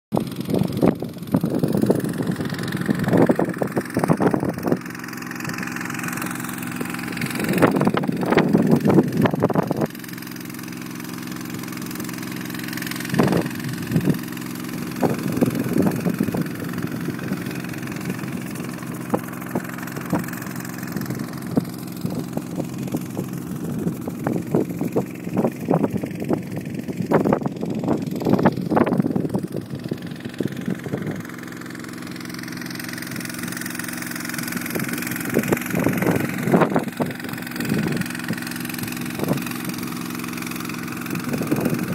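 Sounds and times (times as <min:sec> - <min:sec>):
motocross bike engine: 0:00.1 - 0:41.9.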